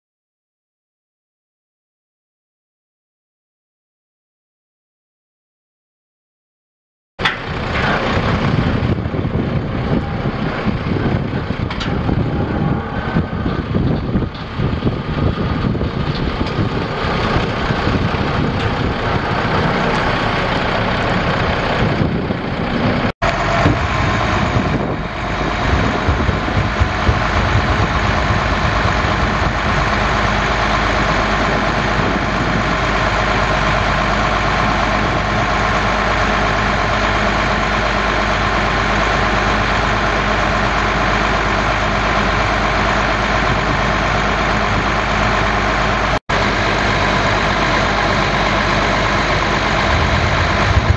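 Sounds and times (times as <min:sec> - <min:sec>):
diesel truck idling: 0:07.2 - 0:50.9.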